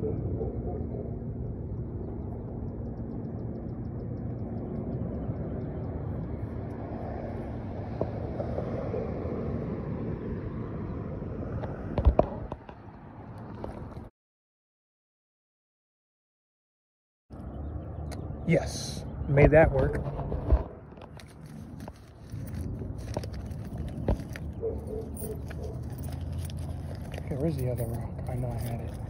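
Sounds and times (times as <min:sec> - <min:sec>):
low outdoor rumble: 0:00.0 - 0:14.1, 0:17.3 - 0:29.0.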